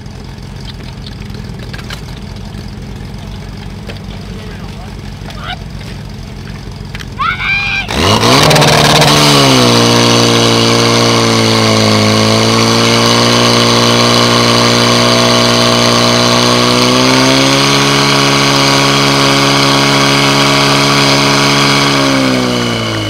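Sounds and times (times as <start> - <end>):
fire pump engine running hard: 0.0 - 23.0.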